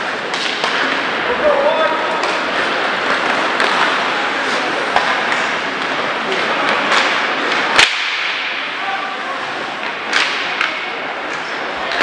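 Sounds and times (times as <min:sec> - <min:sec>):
hockey stick hitting puck: 0:00.1 - 0:01.1, 0:02.1 - 0:08.7, 0:09.8 - 0:12.0.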